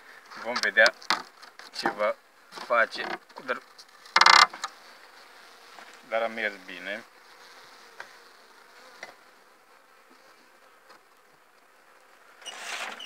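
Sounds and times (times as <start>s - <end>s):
bees buzzing: 2.4s - 13.0s.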